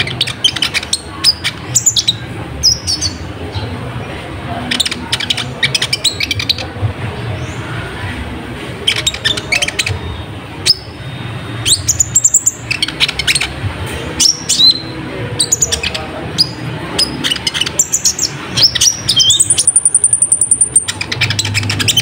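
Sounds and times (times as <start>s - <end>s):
songbird chirps and trills: 0.0s - 22.0s.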